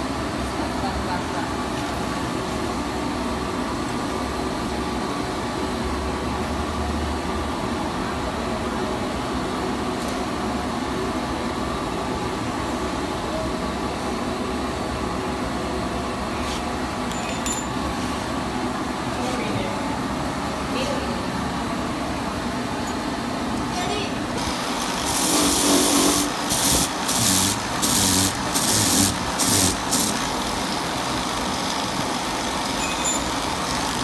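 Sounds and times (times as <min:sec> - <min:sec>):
mechanical hum with held tones: 0:00.0 - 0:34.0.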